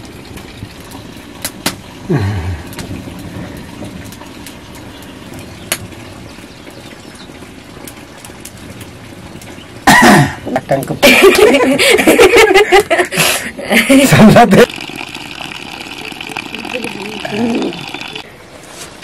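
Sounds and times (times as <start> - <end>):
wood fire crackling and popping: 0.0 - 18.3.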